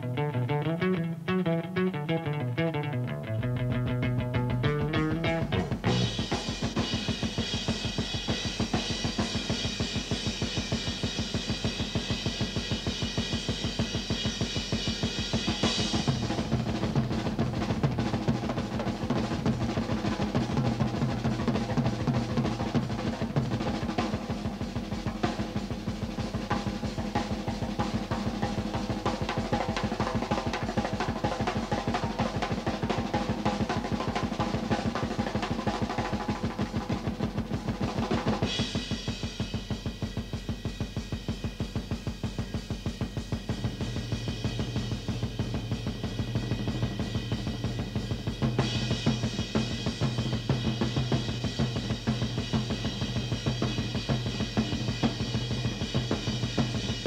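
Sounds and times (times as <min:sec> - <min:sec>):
rock drum solo: 0:00.0 - 0:57.0.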